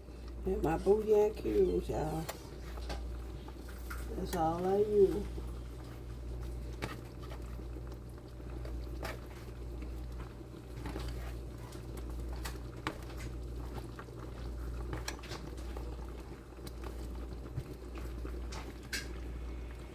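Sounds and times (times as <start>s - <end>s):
pot boiling with bubbling pops: 0.0s - 19.9s
steady low hum: 0.0s - 19.9s.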